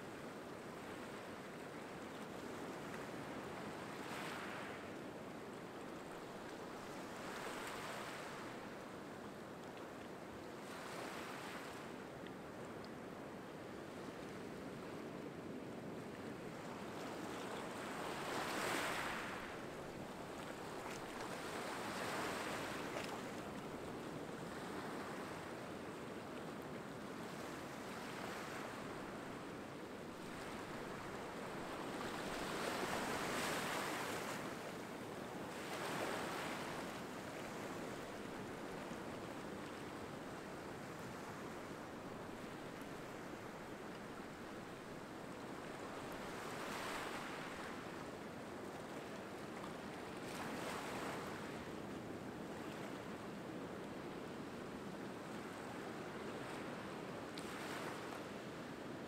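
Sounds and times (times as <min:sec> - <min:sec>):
small waves washing on beach: 0:00.0 - 0:59.0.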